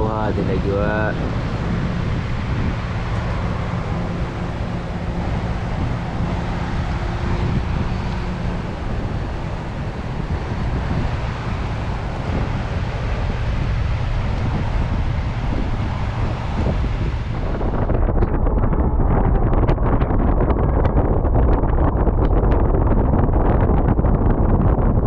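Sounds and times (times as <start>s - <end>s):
car rumble on the move: 0.0s - 25.0s
faint engine hum: 0.0s - 25.0s
wind buffeting microphone: 0.0s - 25.0s.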